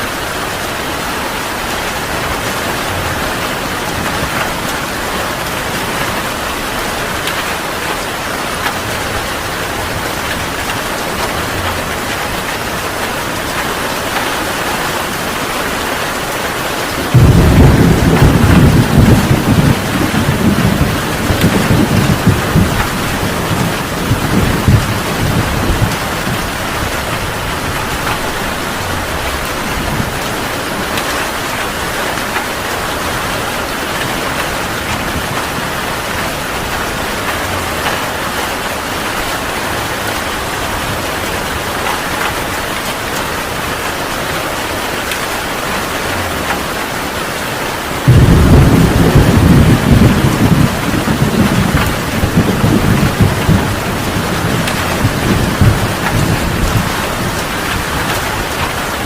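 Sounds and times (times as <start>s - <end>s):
heavy rain pouring: 0.0s - 59.0s
thunder rumbling: 0.4s - 44.1s, 47.9s - 59.0s.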